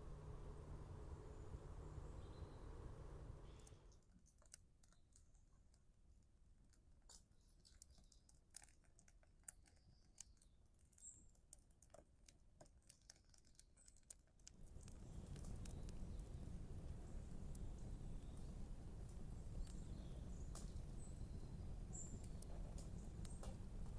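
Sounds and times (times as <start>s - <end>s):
faint irregular clicks and ticks: 3.5s - 23.9s.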